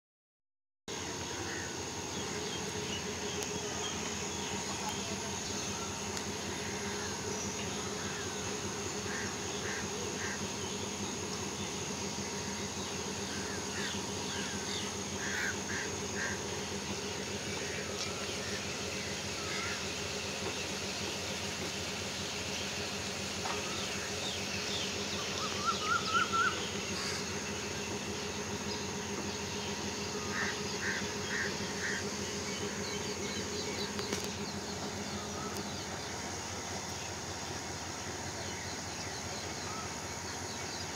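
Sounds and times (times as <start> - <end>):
birds chirping: 0.9 - 40.9
diesel trains idling: 0.9 - 40.9.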